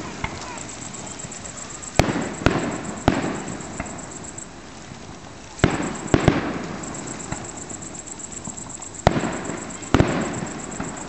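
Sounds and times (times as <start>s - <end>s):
fireworks bursting with echo: 0.0s - 11.0s.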